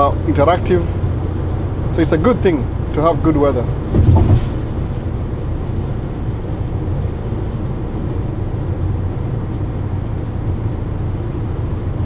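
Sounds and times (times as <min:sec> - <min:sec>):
car driving at highway speed: 0:00.0 - 0:12.0.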